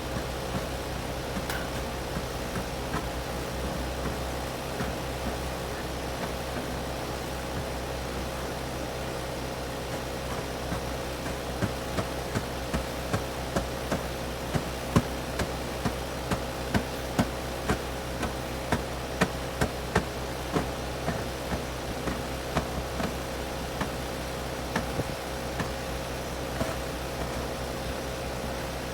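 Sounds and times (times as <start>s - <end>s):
air conditioner humming: 0.0s - 28.9s.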